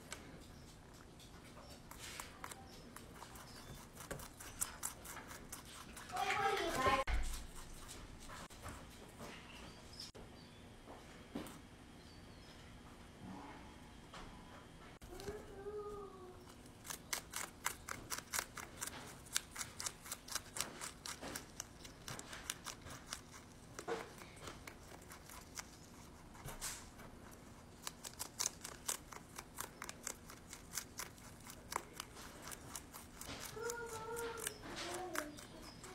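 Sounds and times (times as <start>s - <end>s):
rabbit chewing crunchy greens: 0.0s - 10.2s, 15.0s - 35.9s.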